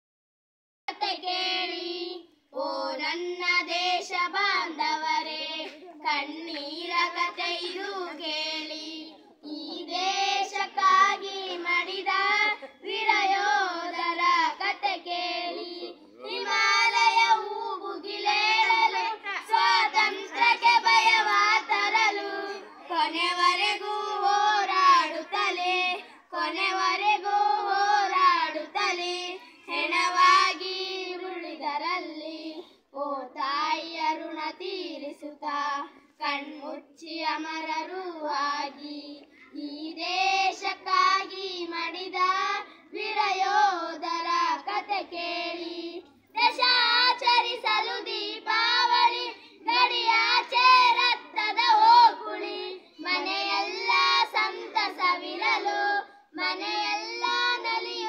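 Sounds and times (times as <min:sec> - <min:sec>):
children singing in unison: 0:00.9 - 0:58.0.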